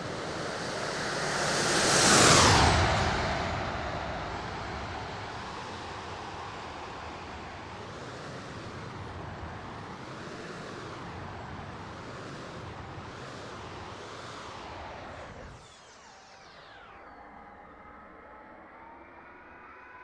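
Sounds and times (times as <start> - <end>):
model jet flying: 0.0 - 20.0.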